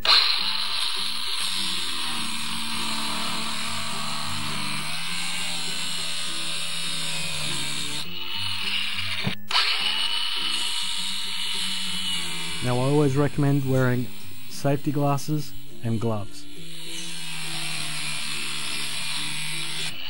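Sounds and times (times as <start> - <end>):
angle grinder cutting steel: 0.0 - 20.0.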